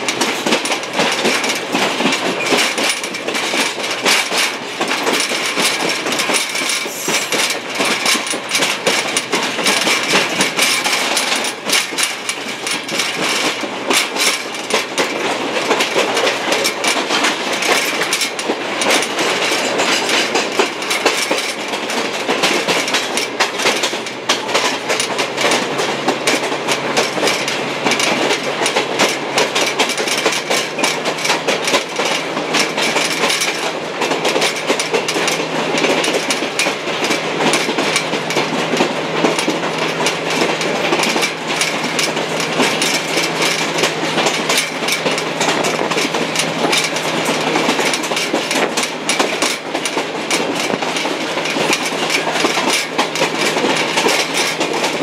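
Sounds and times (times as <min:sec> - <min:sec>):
train car rumble and rattle: 0:00.0 - 0:55.0
wheels clicking over rail joints: 0:00.0 - 0:55.0.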